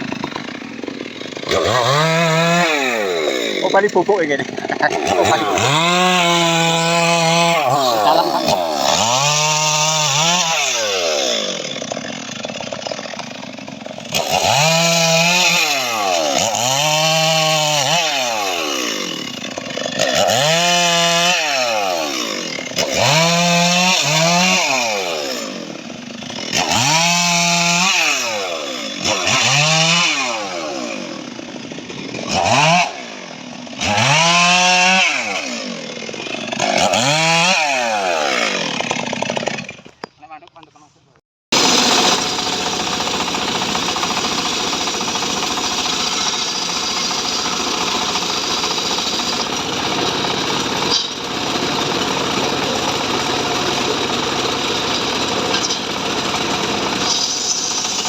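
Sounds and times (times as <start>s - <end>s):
chainsaw cutting wood: 0.0s - 40.6s, 41.5s - 58.0s.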